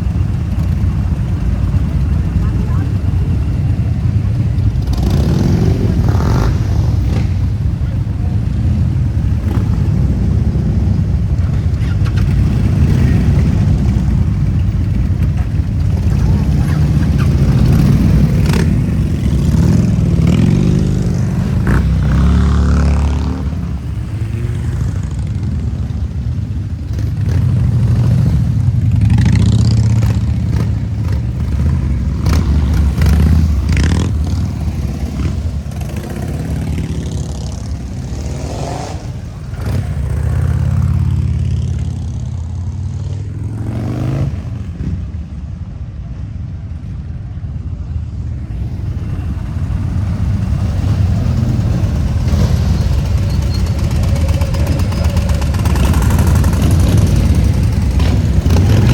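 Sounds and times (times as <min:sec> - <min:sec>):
motorcycle engines revving: 0:00.0 - 0:58.9.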